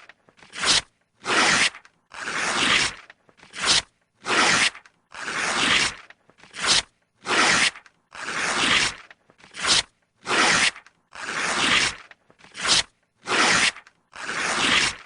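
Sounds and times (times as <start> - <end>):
paper tearing: 0.0 - 15.0.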